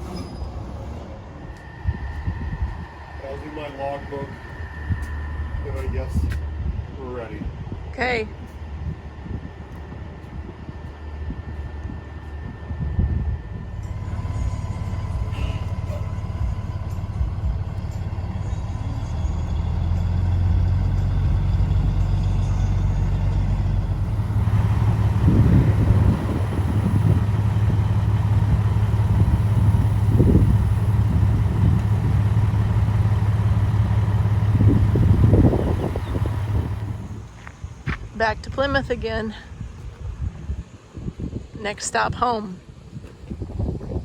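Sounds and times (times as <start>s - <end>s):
truck engine pulling away: 0.0s - 7.8s, 9.0s - 38.2s
road and wind noise: 0.0s - 44.0s.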